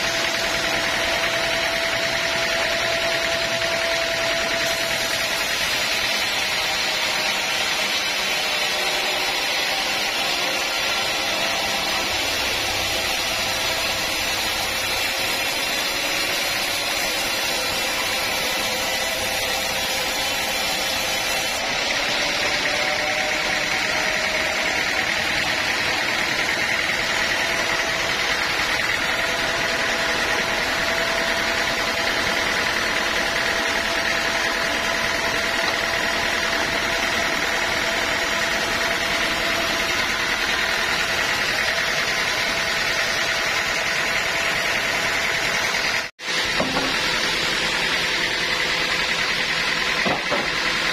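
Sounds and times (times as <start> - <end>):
sawmill saw whining: 0.0 - 50.9.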